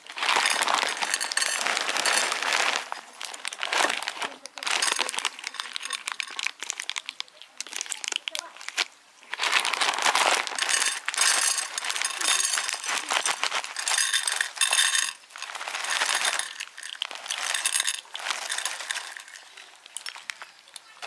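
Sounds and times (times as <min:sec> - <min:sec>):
dry kibble rattling onto a plate: 0:00.0 - 0:21.0.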